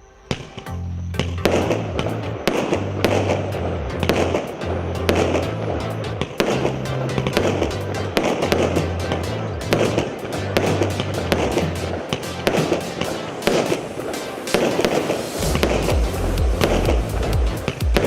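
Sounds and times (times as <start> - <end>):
fireworks popping and bursting: 0.3 - 18.0
background music with bass: 0.4 - 18.0.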